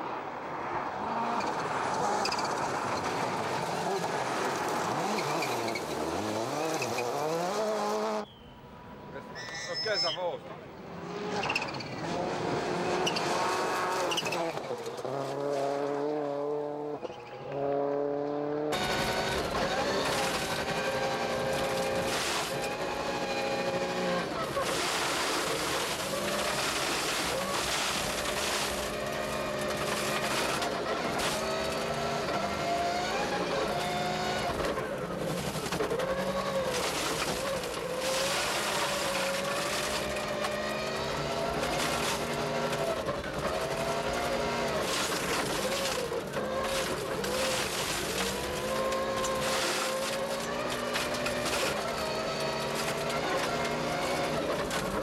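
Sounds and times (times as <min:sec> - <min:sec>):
road and wind noise: 0:00.0 - 0:55.0
rally car engine revving: 0:00.9 - 0:08.2, 0:11.0 - 0:55.0.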